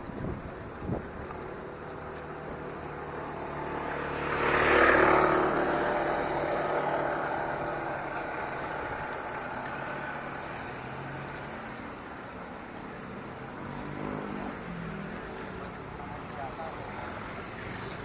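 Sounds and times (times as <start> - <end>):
motor vehicle passing by: 1.8 - 12.2, 13.1 - 18.0.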